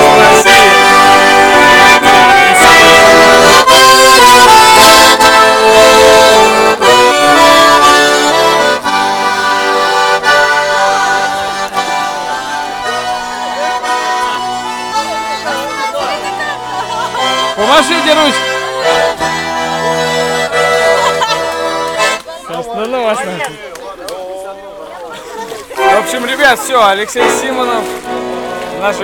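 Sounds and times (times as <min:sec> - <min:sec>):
button accordion playing chords: 0:00.0 - 0:23.4, 0:25.8 - 0:29.0.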